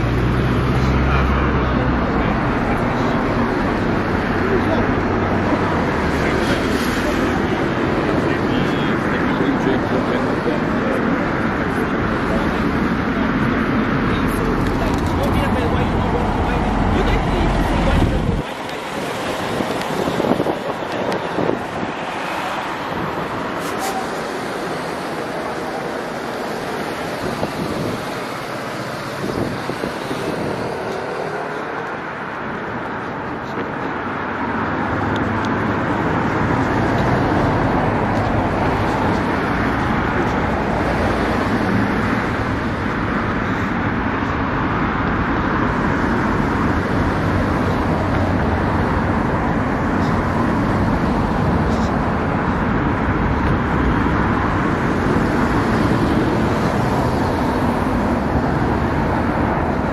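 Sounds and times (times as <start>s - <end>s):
cars driving past: 0.0s - 59.9s.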